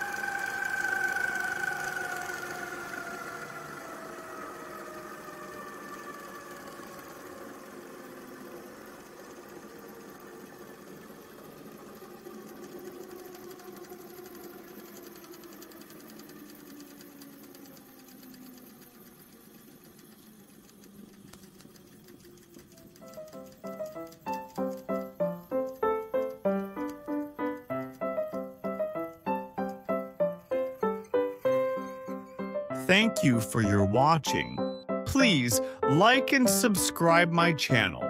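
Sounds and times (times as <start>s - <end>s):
flywheel whine falling in pitch: 0.0s - 38.0s.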